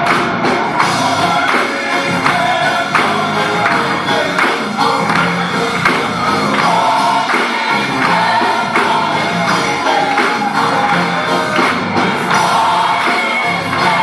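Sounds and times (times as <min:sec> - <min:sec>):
gospel choir singing: 0:00.0 - 0:14.0
percussive beat: 0:00.0 - 0:14.0.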